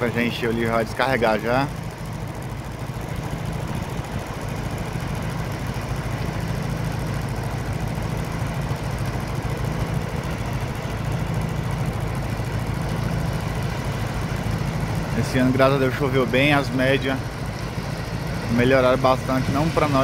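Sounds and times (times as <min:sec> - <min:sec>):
farm machinery engine droning: 0:00.0 - 0:20.0.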